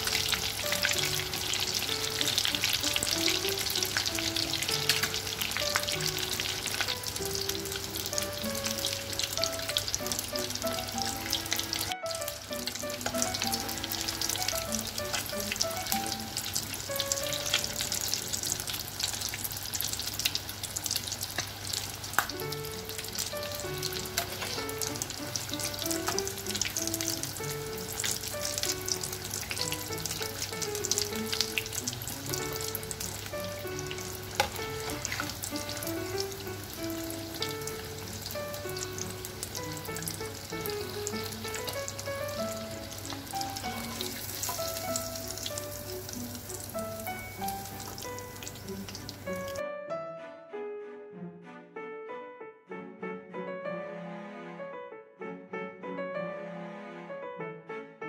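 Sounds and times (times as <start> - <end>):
chicken sizzling in hot oil: 0.0 - 49.6.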